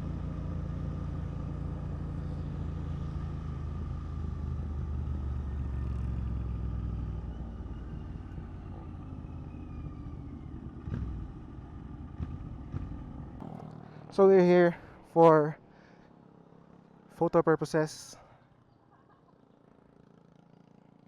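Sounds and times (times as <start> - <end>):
motorcycle engine running: 0.0 - 17.2, 19.4 - 21.0.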